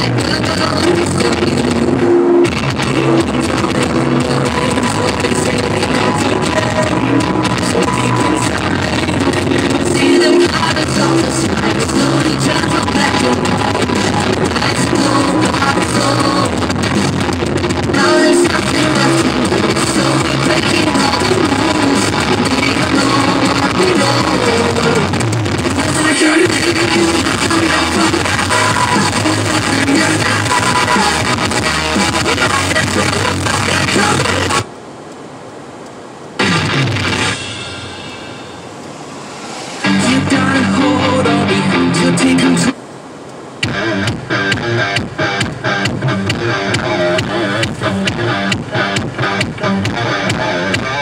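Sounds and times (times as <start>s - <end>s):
song with singing and guitar: 0.0s - 34.7s, 36.4s - 42.8s, 43.6s - 51.0s.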